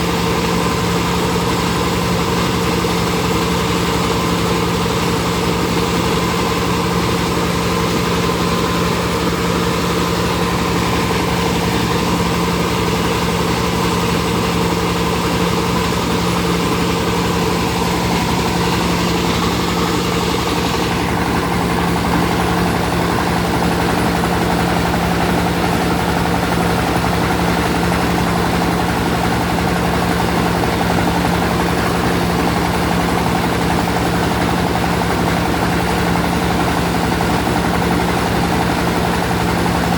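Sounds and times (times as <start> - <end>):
rice milling machine running: 0.0 - 39.9.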